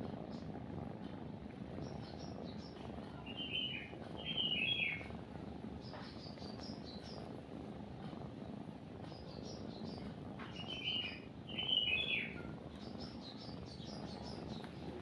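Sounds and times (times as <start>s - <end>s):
cat purring: 0.0s - 15.0s
small birds chirping: 1.6s - 15.0s.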